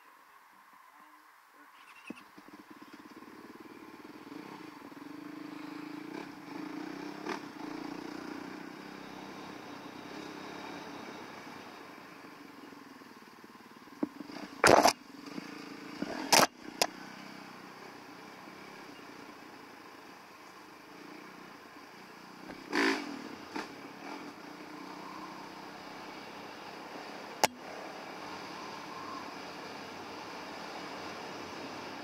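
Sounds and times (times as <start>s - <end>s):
motorcycle engine running: 2.2s - 32.0s.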